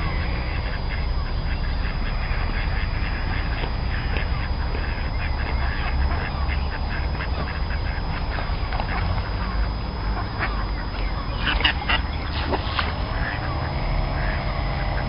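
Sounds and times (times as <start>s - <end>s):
steady low rumble: 0.0s - 15.0s
waterbirds quacking: 0.0s - 15.0s.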